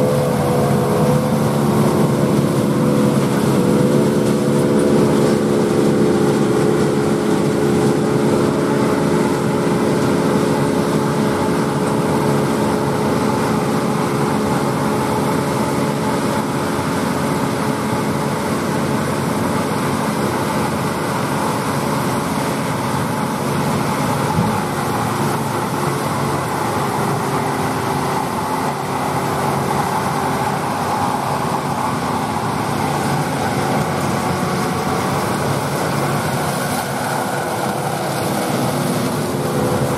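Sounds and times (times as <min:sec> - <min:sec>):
threshing machinery: 0:00.0 - 0:39.9
tractor diesel engines running: 0:00.0 - 0:39.9.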